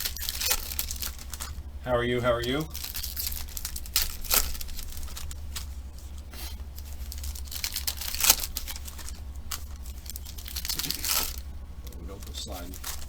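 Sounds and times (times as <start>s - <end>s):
steady low hum: 0.0s - 13.0s
wrappers crinkling and tearing: 0.0s - 13.0s.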